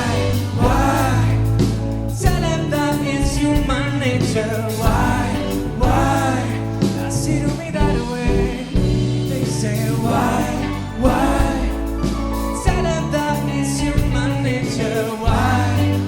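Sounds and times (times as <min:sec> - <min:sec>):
band playing pop-rock ballad: 0:00.0 - 0:16.0
person singing with vibrato: 0:00.0 - 0:16.0.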